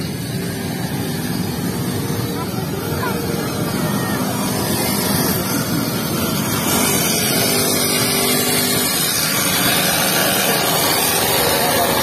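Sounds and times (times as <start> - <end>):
busy outdoor background: 0.0 - 12.0
small engine running: 0.0 - 12.0.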